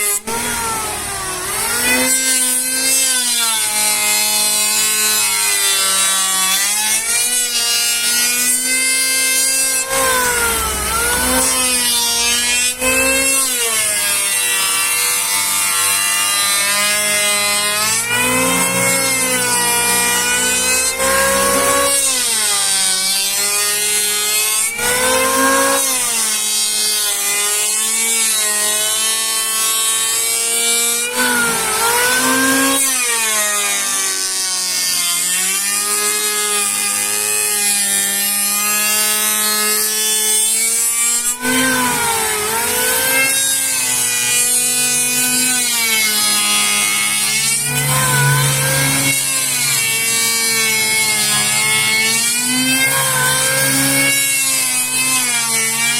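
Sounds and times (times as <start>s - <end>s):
saw cutting wood whine: 0.0s - 55.9s.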